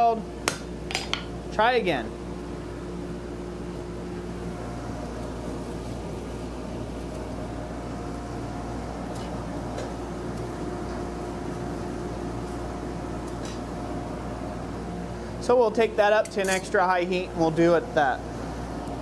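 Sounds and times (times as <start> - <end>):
forge blower humming: 0.0 - 19.0.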